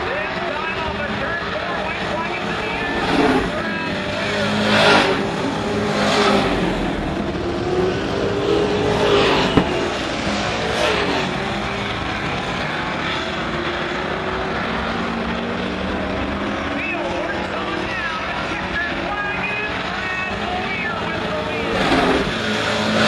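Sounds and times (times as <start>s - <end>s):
race trucks passing by: 0.0s - 23.0s.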